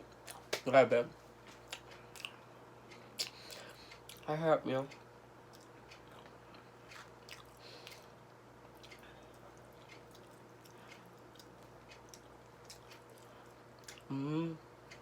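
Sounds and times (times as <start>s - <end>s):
person chewing food: 0.1s - 0.6s, 1.4s - 4.3s, 5.4s - 15.0s.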